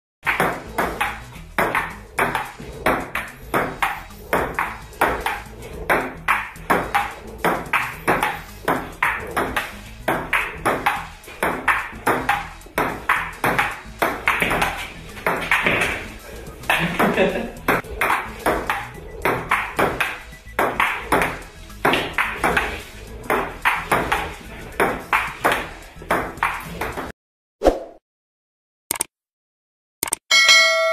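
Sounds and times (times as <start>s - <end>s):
ping pong ball clicking: 0.3s - 16.1s, 17.6s - 26.7s.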